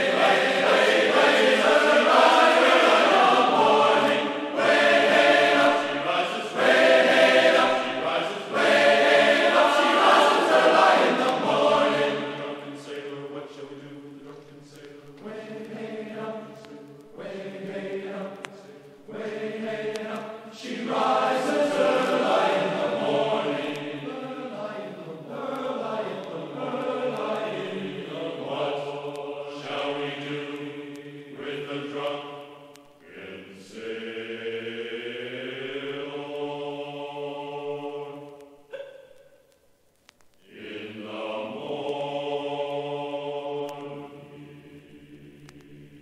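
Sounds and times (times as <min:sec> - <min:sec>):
voices chanting long notes: 0:00.0 - 0:39.3, 0:40.4 - 0:46.0.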